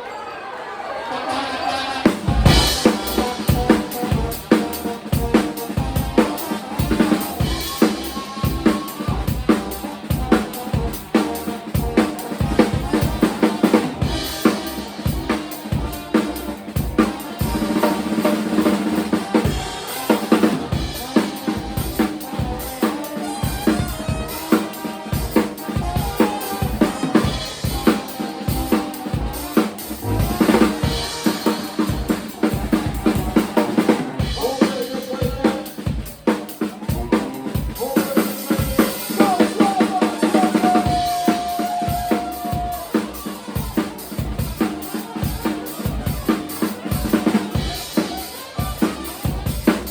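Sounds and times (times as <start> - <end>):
drum kit beat: 1.9 - 49.9.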